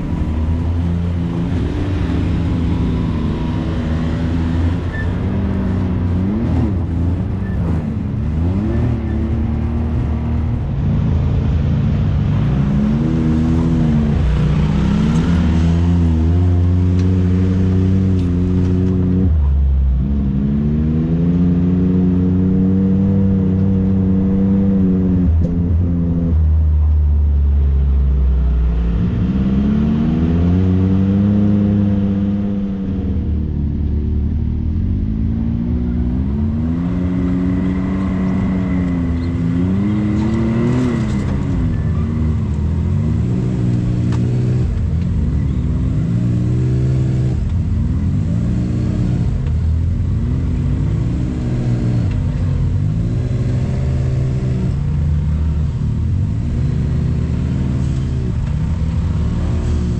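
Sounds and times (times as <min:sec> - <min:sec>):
utility vehicle engine revving: 0:00.0 - 0:59.9.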